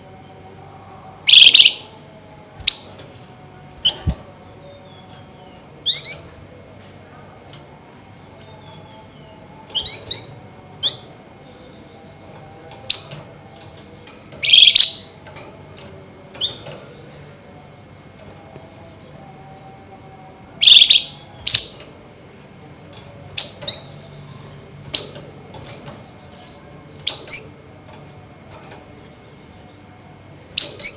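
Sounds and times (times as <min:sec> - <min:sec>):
songbird chirping: 0:00.0 - 0:30.9.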